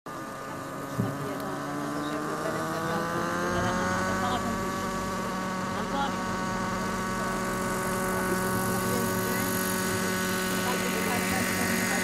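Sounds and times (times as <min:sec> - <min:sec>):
model helicopter engine running: 0:00.1 - 0:12.0.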